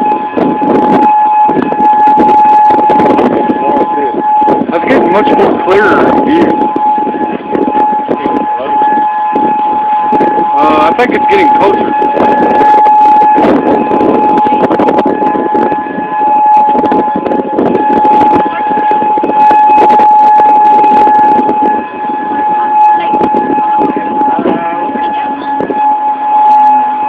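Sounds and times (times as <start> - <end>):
warning siren high tone: 0.0 - 27.0.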